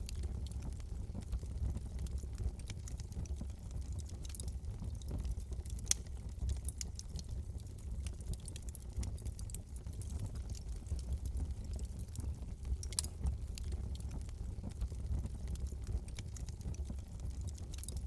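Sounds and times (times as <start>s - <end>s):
burning wood crackling and popping: 0.0s - 18.0s
flames rumbling: 0.0s - 18.0s.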